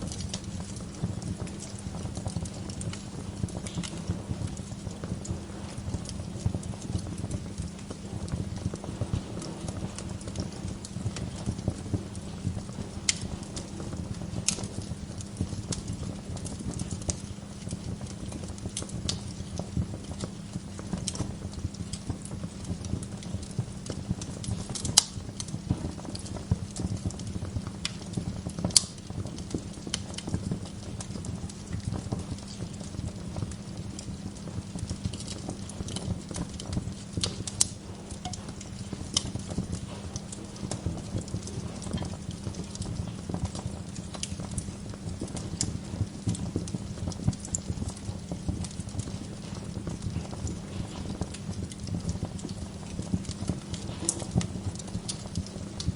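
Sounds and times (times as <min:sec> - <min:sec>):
sharp pops from fire: 0:00.0 - 0:55.9
wood fire crackling: 0:00.0 - 0:55.9.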